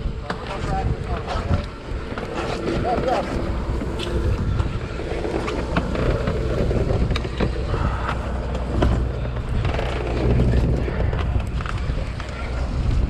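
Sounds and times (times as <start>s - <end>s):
boat engine humming: 0.0s - 13.0s
wind buffeting microphone: 0.0s - 13.0s.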